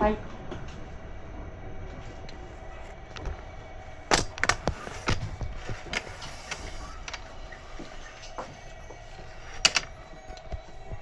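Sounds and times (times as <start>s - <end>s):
train low hum: 0.0s - 11.0s.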